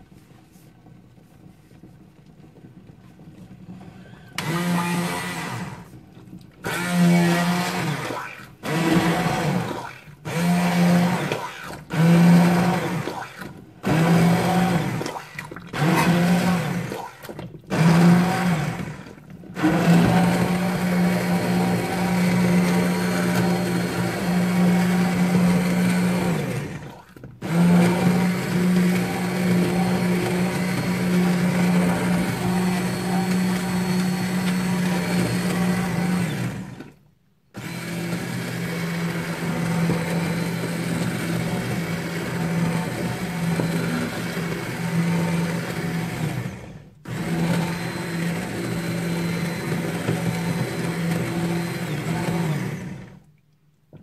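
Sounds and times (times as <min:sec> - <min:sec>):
immersion blender motor humming: 0:03.8 - 0:06.0, 0:06.6 - 0:37.0, 0:37.6 - 0:53.3.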